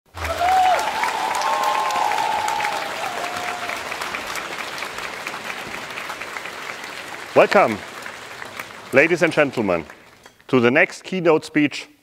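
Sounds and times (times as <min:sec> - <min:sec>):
audience applauding: 0:00.1 - 0:10.5.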